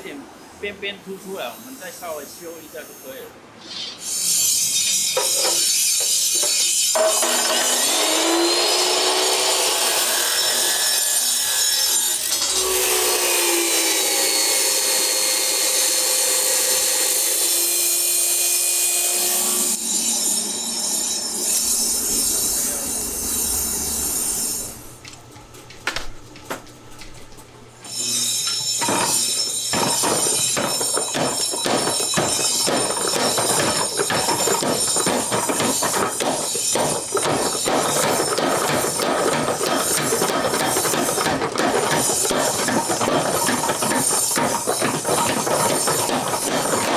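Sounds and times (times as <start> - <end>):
cut-off saw grinding steel: 1.4 - 24.9, 27.8 - 46.9
power hammer striking steel: 3.8 - 23.4, 28.0 - 46.9.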